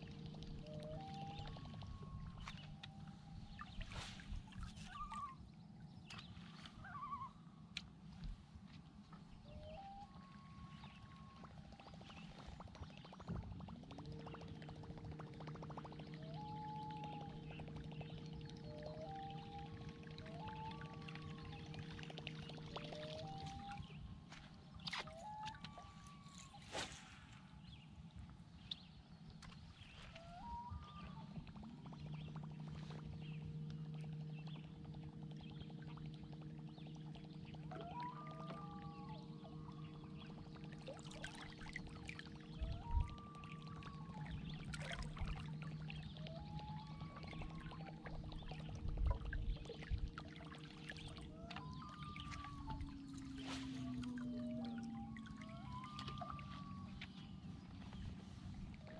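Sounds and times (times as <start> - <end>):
low music drone: 0.0 - 4.7, 9.0 - 28.2, 29.9 - 58.9
faint bird chirps: 0.5 - 7.6, 9.3 - 14.8, 15.7 - 28.0, 28.6 - 58.9.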